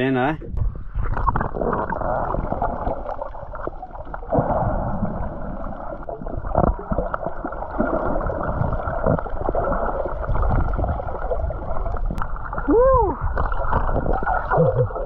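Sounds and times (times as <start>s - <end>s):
muffled underwater splashing: 0.4s - 15.0s.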